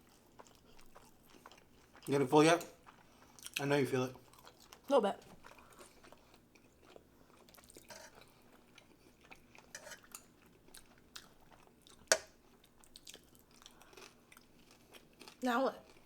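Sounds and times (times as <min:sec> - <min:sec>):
people chewing: 0:00.0 - 0:16.0.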